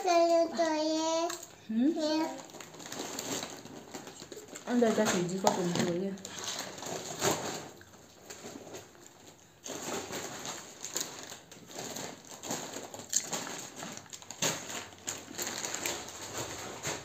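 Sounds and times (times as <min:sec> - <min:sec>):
packaging rustling and crinkling: 0:02.0 - 0:17.0.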